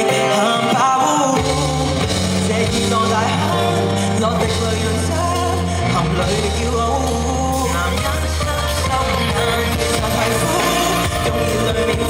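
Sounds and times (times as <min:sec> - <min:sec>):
band backing with bass: 0:00.0 - 0:12.0
man singing pop song: 0:00.0 - 0:12.0.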